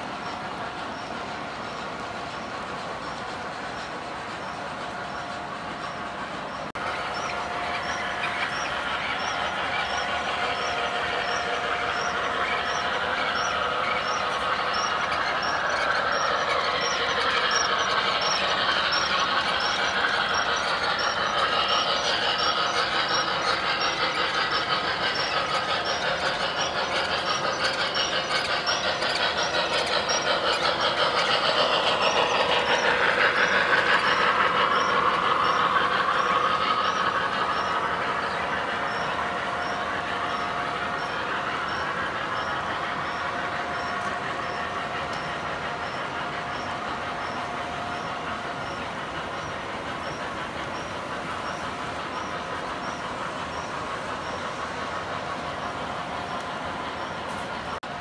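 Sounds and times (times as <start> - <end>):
model trains rolling rumble: 0.0 - 58.0.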